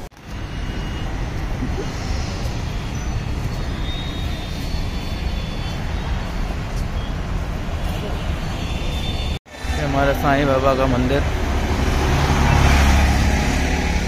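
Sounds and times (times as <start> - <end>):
heavy road traffic rumble: 0.0 - 14.0.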